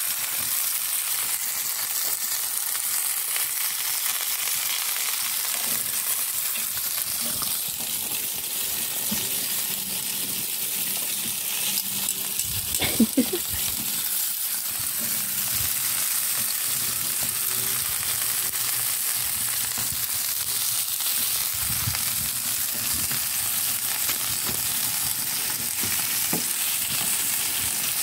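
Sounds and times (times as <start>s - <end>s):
sausages sizzling: 0.0s - 28.0s.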